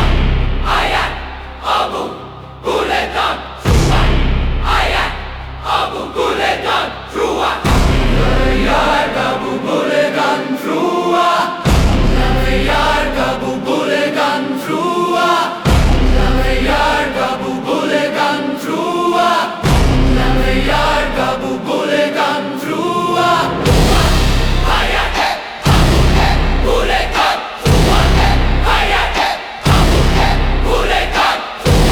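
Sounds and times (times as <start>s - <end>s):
choir chanting: 0.0s - 31.9s
dark orchestral music: 0.0s - 31.9s.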